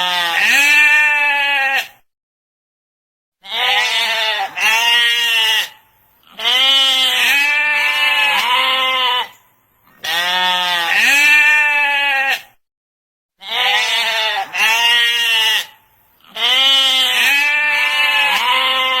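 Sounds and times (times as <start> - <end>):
sheep bleating: 0.0 - 2.0, 3.4 - 9.4, 10.0 - 12.6, 13.4 - 19.0.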